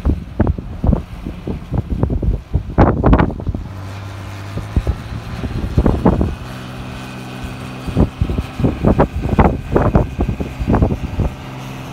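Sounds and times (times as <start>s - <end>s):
tractor engine running: 0.0s - 11.9s
wheel loader engine: 0.0s - 11.9s
wind buffeting microphone: 0.0s - 11.9s.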